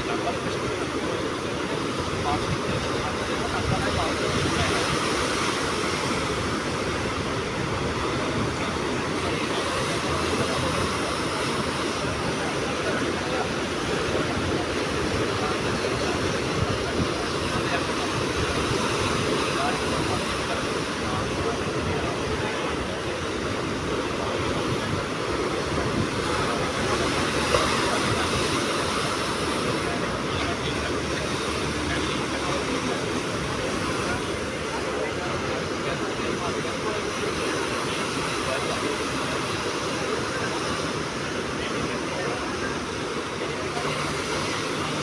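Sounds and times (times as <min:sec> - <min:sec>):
sea surf breaking on shore: 0:00.0 - 0:45.0.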